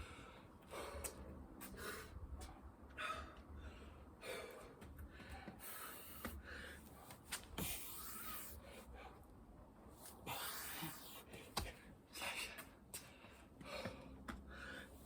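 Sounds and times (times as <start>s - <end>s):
man breathing hard: 0.0s - 9.4s, 10.1s - 15.0s.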